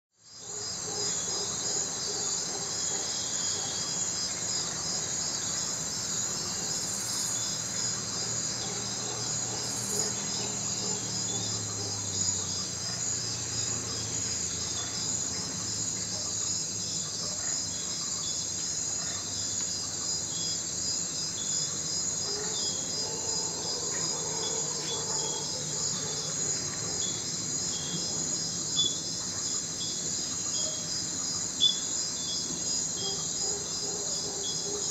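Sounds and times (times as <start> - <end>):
insects chorus: 0.2 - 34.9
distant howler monkeys roaring: 0.4 - 31.6, 32.5 - 34.9.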